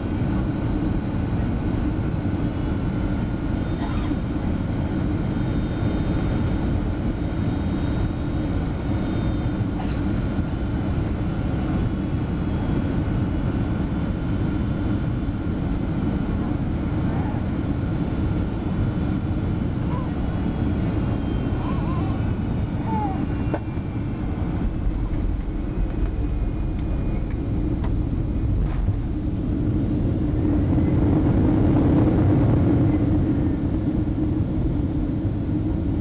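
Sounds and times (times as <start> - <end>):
airliner cabin engine rumble: 0.0 - 36.0
faint steady whine: 0.0 - 36.0.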